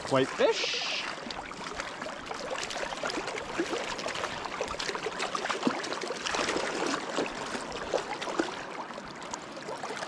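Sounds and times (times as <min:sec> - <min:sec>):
river water running and splashing: 0:00.0 - 0:10.0.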